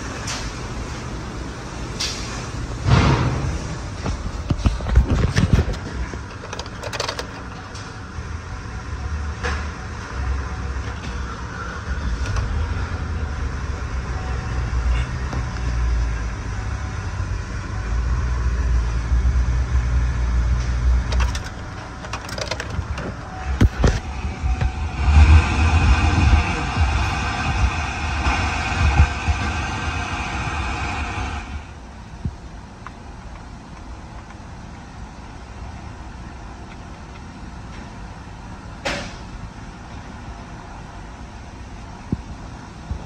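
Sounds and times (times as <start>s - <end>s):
engine idling low rumble: 0.0s - 43.0s.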